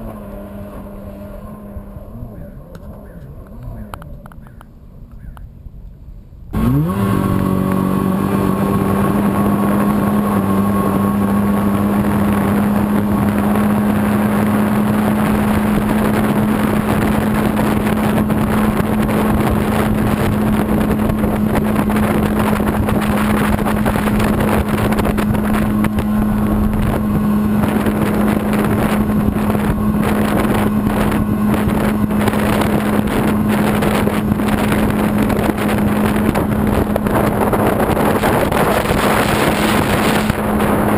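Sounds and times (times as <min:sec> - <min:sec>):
jet boat engine running: 0:00.0 - 0:05.1, 0:06.4 - 0:40.9
wind: 0:00.0 - 0:40.9
water rushing: 0:06.6 - 0:40.9.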